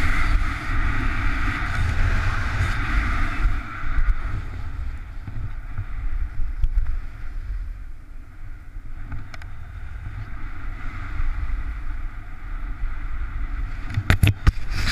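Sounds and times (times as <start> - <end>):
skis sliding over snow: 0.0 - 14.9
wind rumble on microphone: 0.0 - 14.9.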